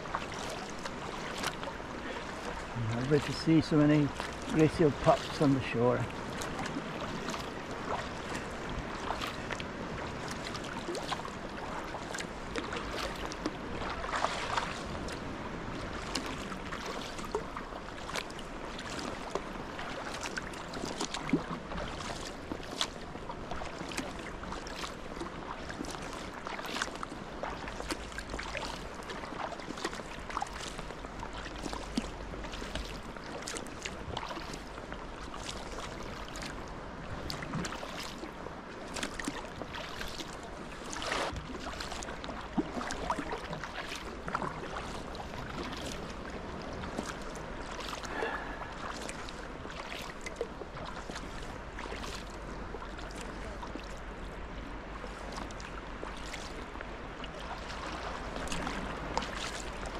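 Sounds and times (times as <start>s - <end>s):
paddle splashing in water: 0.0s - 59.9s
water noise around hull: 0.0s - 59.9s.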